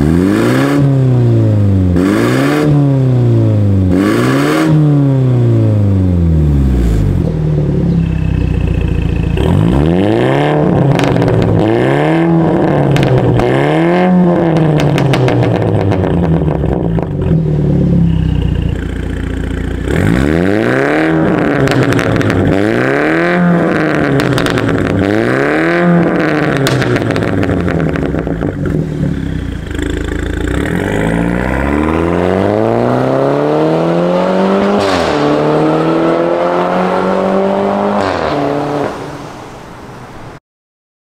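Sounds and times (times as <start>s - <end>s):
car accelerating away: 0.0s - 39.5s
car engine revving: 0.0s - 39.7s.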